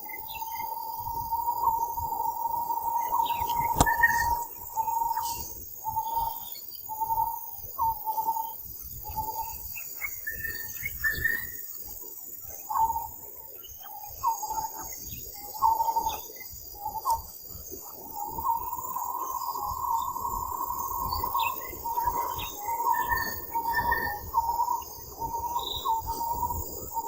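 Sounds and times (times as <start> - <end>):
bird chirps: 0.0 - 27.0
insects buzzing: 0.0 - 27.0.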